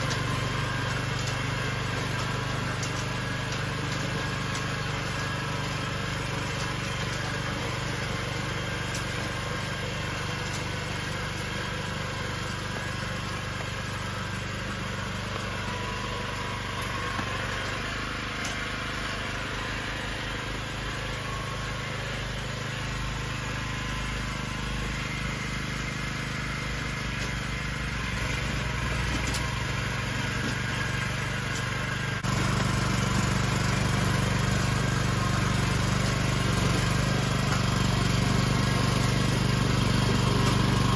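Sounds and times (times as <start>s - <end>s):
rotary tiller engine running: 0.0s - 40.9s.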